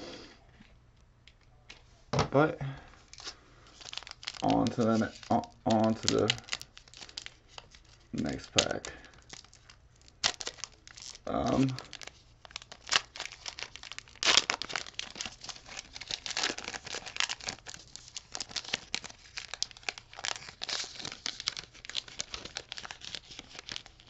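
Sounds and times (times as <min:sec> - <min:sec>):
foil pack crinkling: 0:03.1 - 0:24.0.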